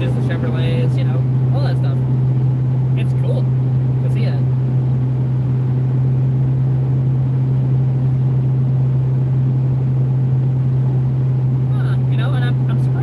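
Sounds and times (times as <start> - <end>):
engine and road noise in car cab: 0.0 - 13.0.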